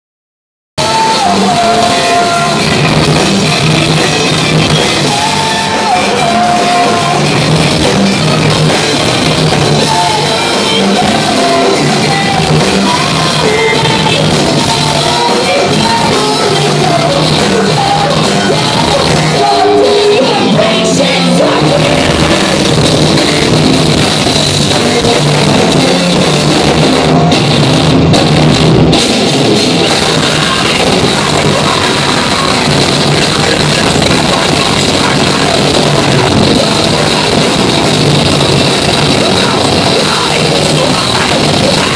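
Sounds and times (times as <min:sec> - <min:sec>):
person singing: 0:00.8 - 0:27.4, 0:29.8 - 0:41.9
live rock band playing: 0:00.8 - 0:41.9.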